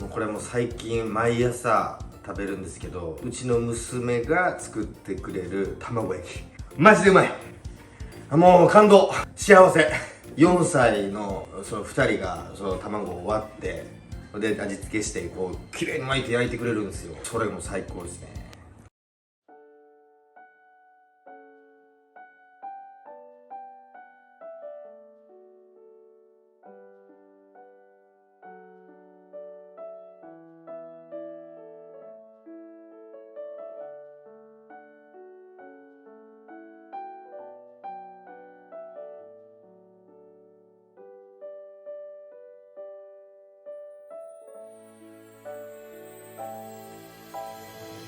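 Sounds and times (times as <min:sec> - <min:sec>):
gentle piano melody: 0:00.0 - 0:18.6, 0:19.5 - 0:48.0.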